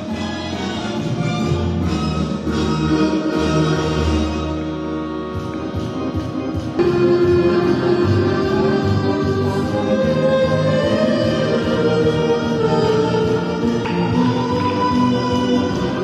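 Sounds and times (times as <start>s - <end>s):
accordion playing a melody: 0.0s - 16.0s.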